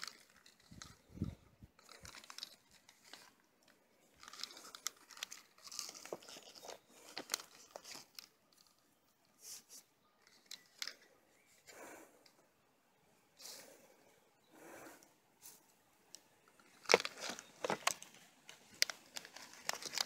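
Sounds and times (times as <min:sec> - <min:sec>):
rustling and crackling: 0:00.0 - 0:12.4, 0:14.6 - 0:20.0.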